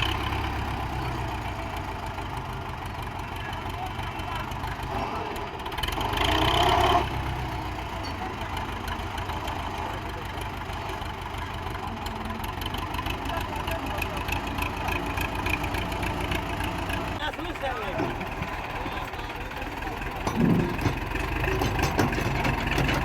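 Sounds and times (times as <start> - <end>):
tractor diesel engine knocking: 0.0 - 23.0.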